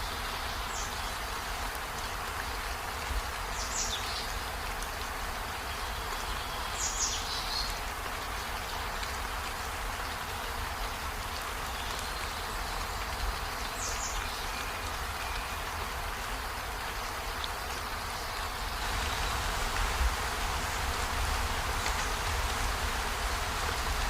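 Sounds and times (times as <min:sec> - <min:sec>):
rain falling on trees: 0:00.0 - 0:24.0.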